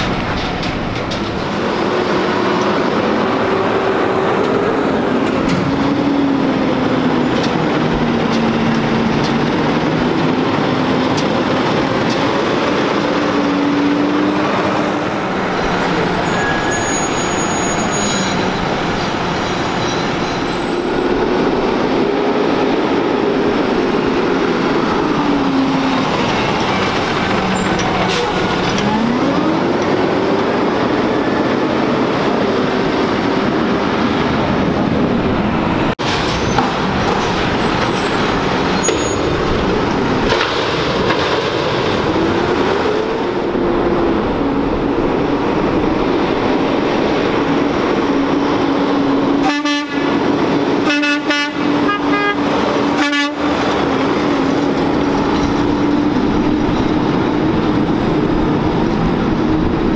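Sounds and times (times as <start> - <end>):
garbage truck diesel engine: 0.0 - 59.9
road noise: 0.0 - 59.9.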